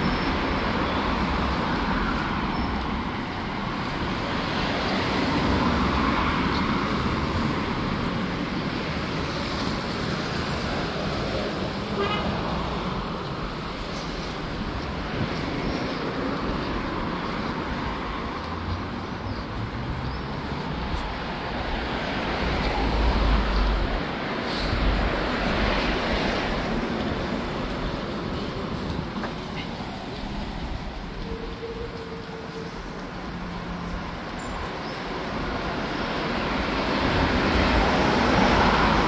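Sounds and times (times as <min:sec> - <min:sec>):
road traffic noise: 0:00.0 - 0:39.0.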